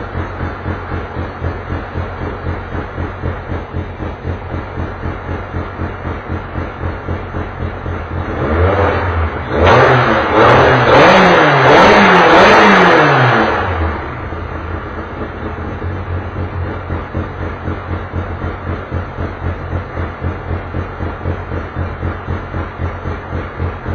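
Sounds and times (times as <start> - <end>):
race car engine idling and revving: 0.0 - 23.9.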